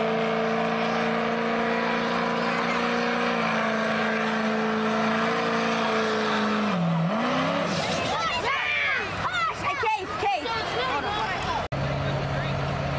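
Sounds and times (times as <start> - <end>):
diesel engine at high revs: 0.0 - 12.9.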